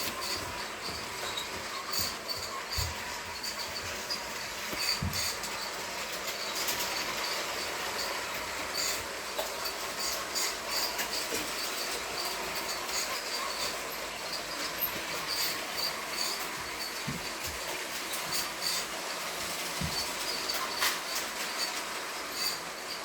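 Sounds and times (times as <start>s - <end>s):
toy train whirring: 0.0s - 23.0s.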